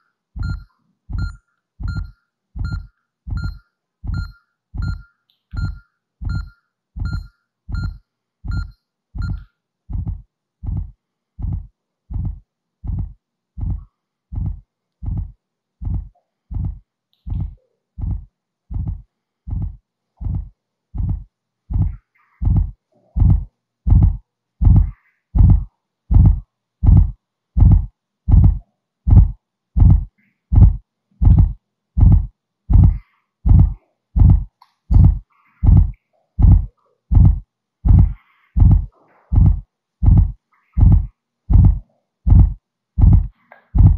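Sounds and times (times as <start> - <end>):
low heartbeat thumps: 0.4 - 5.0, 5.6 - 43.9.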